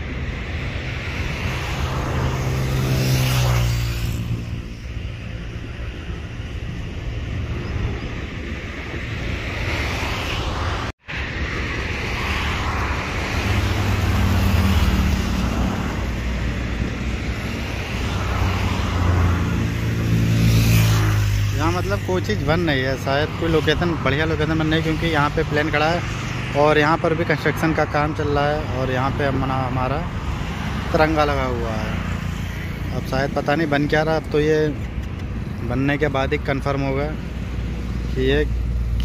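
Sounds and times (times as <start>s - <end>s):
highway traffic road noise: 0.0s - 39.0s.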